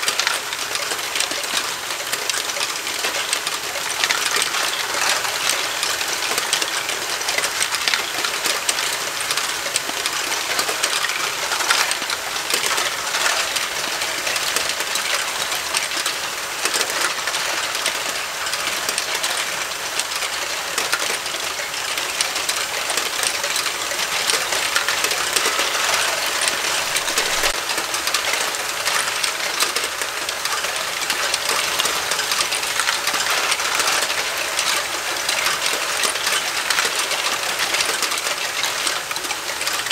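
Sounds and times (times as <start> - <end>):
plastic balls clattering on tracks: 0.0 - 39.9
toy motors whirring: 0.0 - 39.9.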